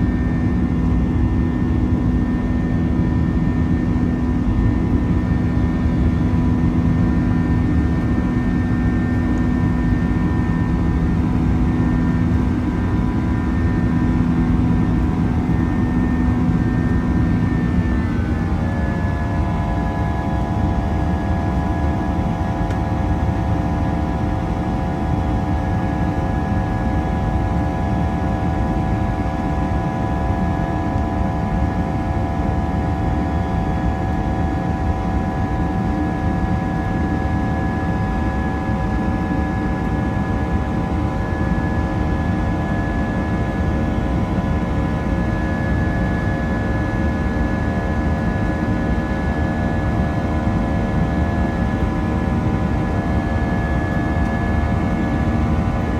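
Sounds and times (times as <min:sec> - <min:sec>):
jet engine rumble in cabin: 0:00.0 - 0:55.9.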